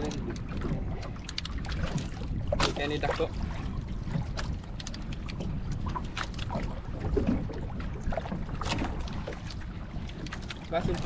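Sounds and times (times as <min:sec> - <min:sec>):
choppy water around boat: 0:00.0 - 0:11.0
wind buffeting microphone: 0:00.0 - 0:11.0.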